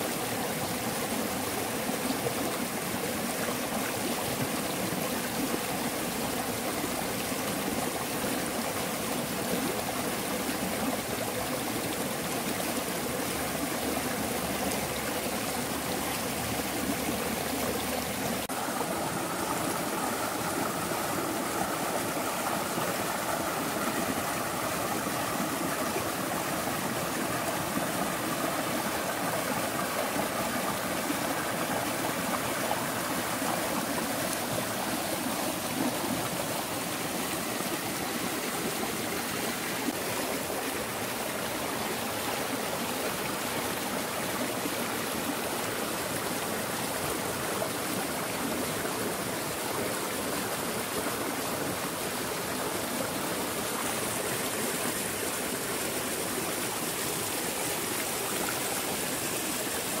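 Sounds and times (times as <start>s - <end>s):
stream flowing: 0.0s - 60.0s.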